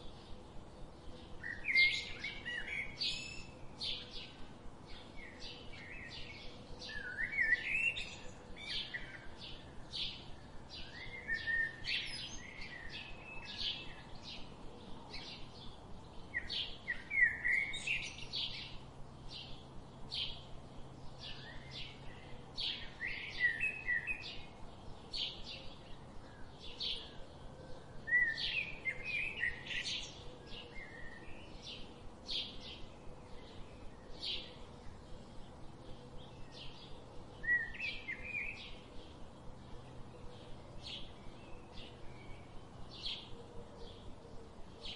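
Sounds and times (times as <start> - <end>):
low warbling bird song: 0.0 - 44.9.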